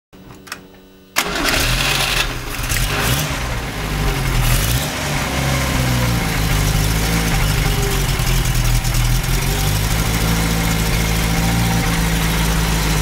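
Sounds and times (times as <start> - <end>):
car engine starting: 1.2 - 13.0.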